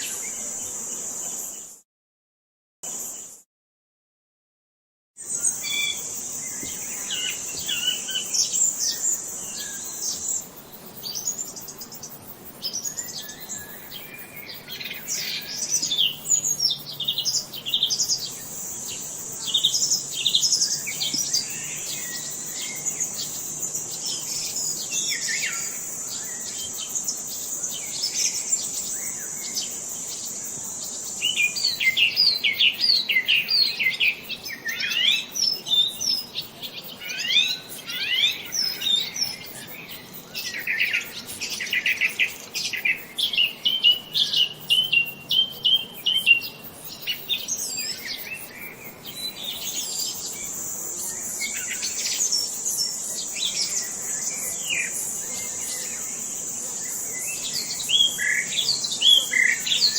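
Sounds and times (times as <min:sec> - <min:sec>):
songbirds chirping: 0:05.2 - 0:59.9.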